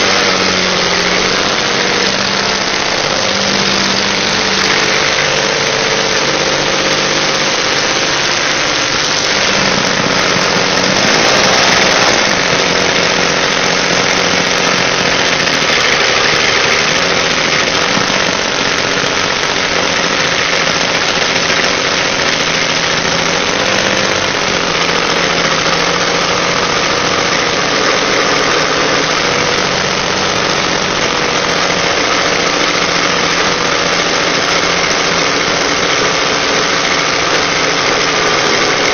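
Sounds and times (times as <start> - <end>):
two-stroke aircraft engine running: 0.0 - 38.9.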